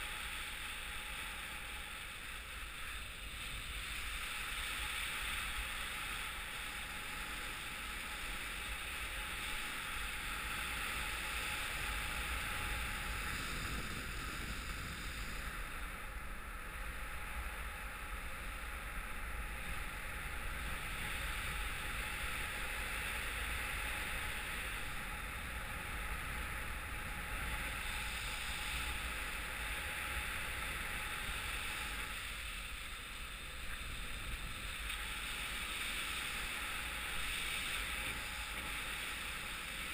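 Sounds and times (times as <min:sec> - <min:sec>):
airflow rushing over microphone: 0:03.2 - 0:39.9.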